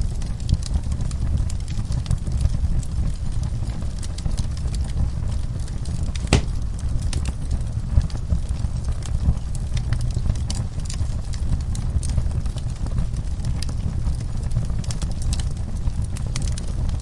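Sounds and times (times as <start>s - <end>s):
fire popping and snapping: 0.0s - 17.0s
low fire rumble: 0.0s - 17.0s
wood fire crackling: 0.0s - 17.0s.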